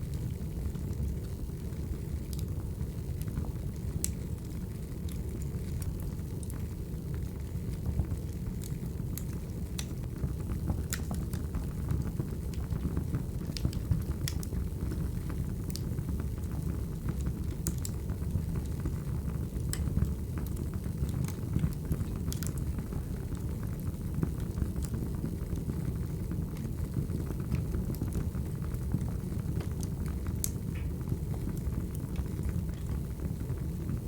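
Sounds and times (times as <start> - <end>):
low rumble of fire burning: 0.0 - 34.0
wood fire crackling and popping: 0.0 - 34.0.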